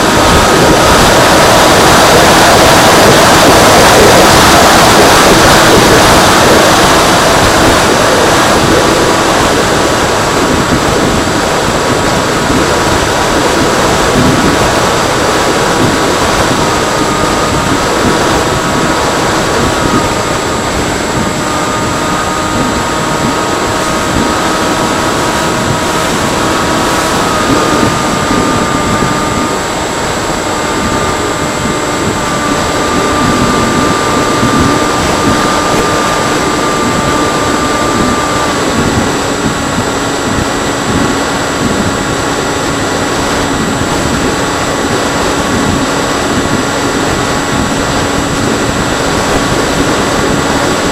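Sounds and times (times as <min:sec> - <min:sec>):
electric motor whine: 0:00.0 - 0:50.9
rush of air: 0:00.0 - 0:50.9.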